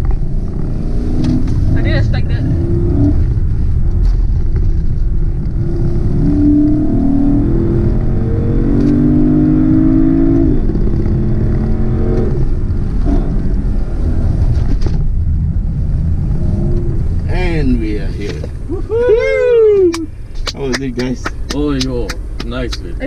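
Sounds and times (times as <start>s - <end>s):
car engine accelerating: 0.0s - 23.0s
road and wind noise: 0.0s - 23.0s.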